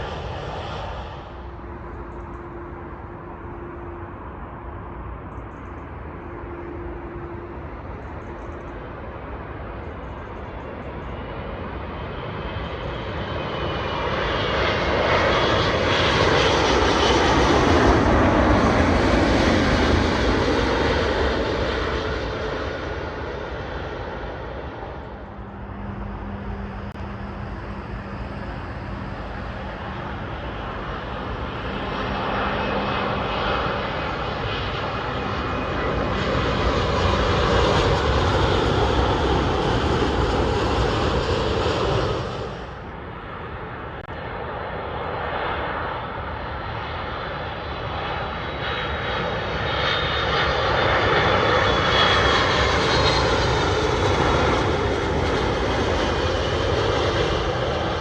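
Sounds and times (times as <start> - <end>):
jet engine falling whine: 0.0 - 58.0
jet plane passing overhead: 0.0 - 58.0.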